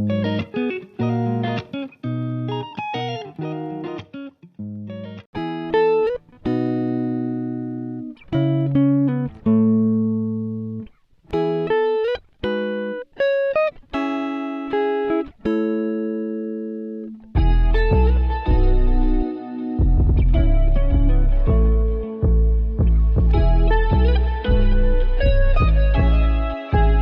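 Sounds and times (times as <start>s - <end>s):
plucked guitar melody: 0.0s - 27.0s.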